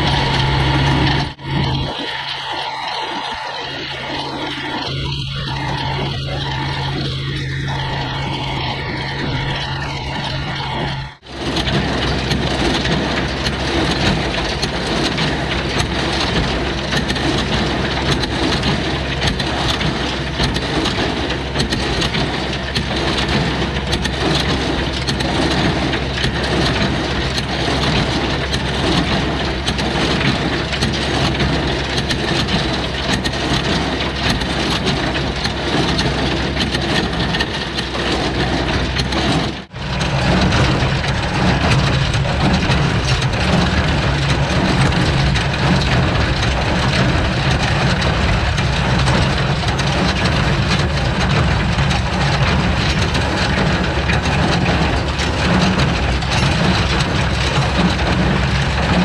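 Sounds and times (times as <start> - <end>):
tractor engine drone: 0.0 - 59.0
tractor idling: 0.0 - 59.0
baler chains clattering: 11.4 - 59.0.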